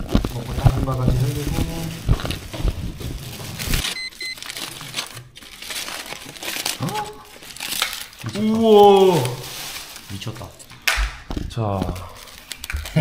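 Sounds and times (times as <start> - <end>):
aluminium foil rustling: 0.0 - 13.0
plastic bag crinkling: 0.0 - 13.0.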